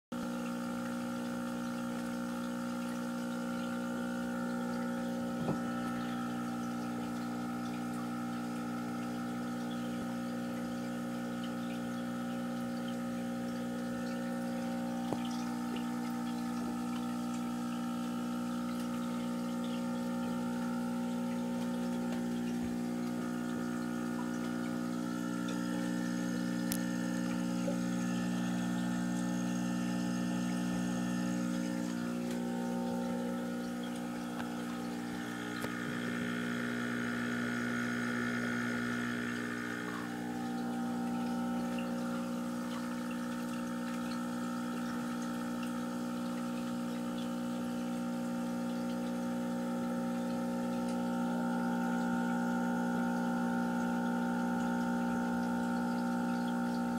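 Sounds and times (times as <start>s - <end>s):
aquarium pump humming: 0.1s - 56.9s
water trickling: 0.2s - 56.9s.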